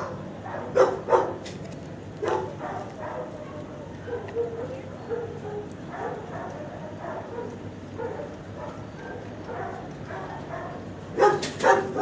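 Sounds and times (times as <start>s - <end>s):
dog barking loudly: 0.0s - 1.4s, 2.2s - 12.0s
faint dog sounds: 2.2s - 12.0s.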